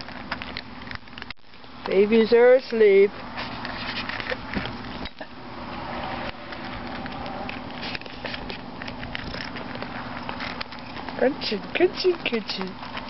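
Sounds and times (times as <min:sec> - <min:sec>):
cats crunching dry food: 0:00.0 - 0:13.0.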